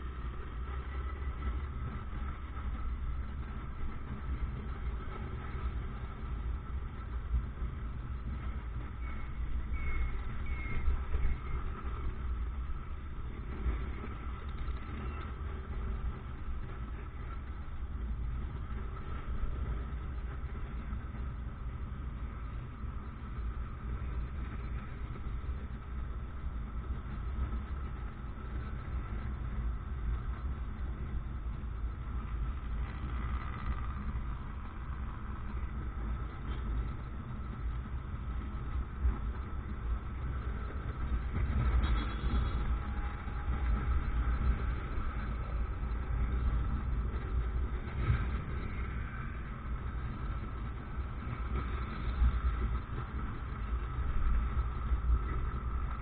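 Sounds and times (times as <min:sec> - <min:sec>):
traffic: 0:00.0 - 0:56.0.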